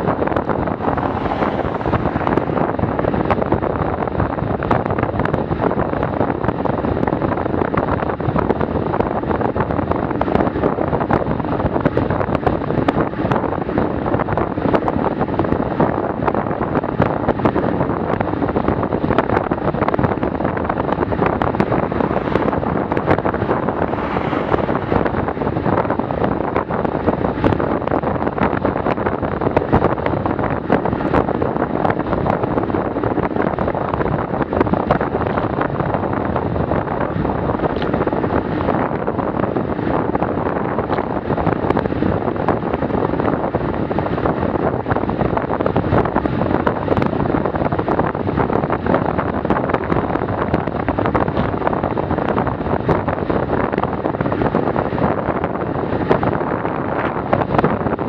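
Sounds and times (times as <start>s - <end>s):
tyre and road noise: 0.0s - 58.0s
wind buffeting microphone: 0.0s - 58.0s.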